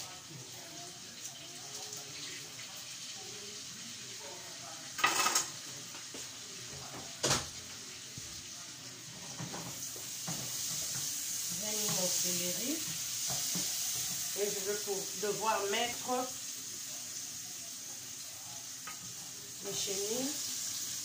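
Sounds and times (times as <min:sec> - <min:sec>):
pot sizzling: 0:00.0 - 0:21.0.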